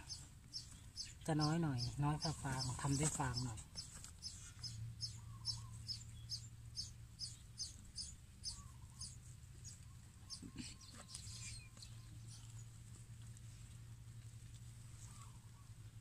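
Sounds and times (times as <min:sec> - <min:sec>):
small bird chirping: 0:00.0 - 0:13.2, 0:14.9 - 0:16.0
low steady hum: 0:00.0 - 0:16.0.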